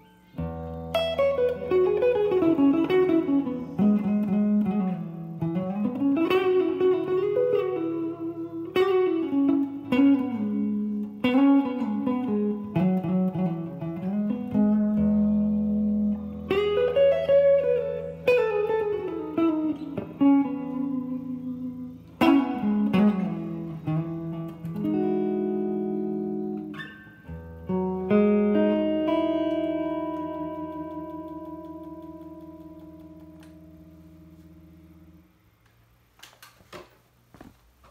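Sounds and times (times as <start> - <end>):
clean electric guitar playing: 0.0 - 35.6.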